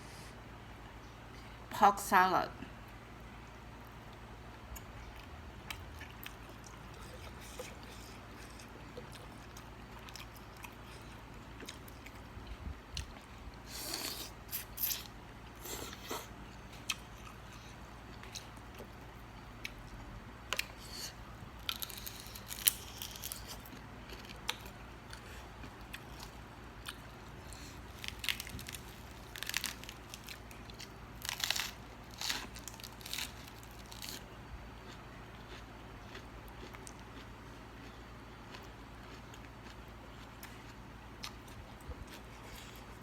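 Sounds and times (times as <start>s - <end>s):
chewing and crunching: 3.8s - 43.0s.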